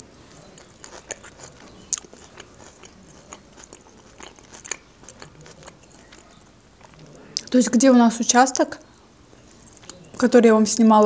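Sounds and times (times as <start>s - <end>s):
chewing salad crunches: 0.3s - 7.6s, 8.6s - 10.3s.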